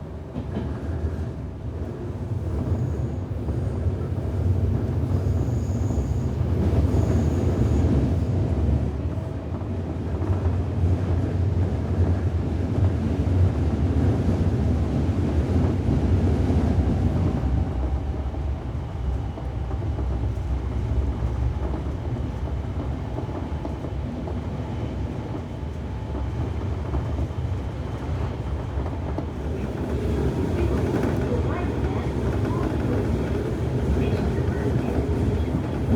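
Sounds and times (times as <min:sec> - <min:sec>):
train running low rumble: 0:00.0 - 0:35.9.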